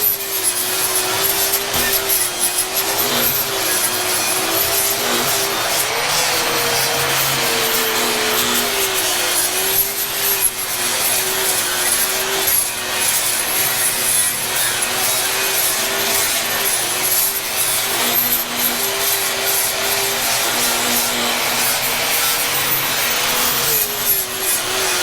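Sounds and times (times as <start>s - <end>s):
wire wheel scrubbing steel: 0.0s - 25.0s.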